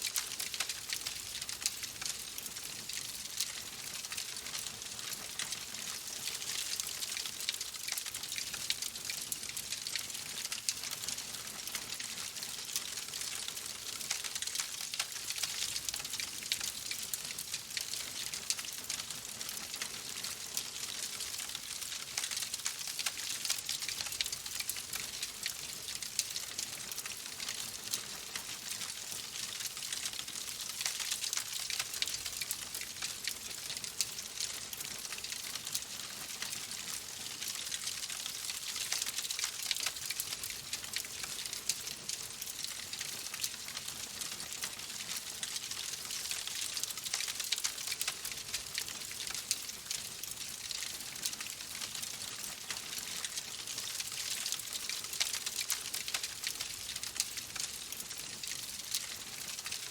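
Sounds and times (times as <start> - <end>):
wood fire crackling: 0.0 - 59.8.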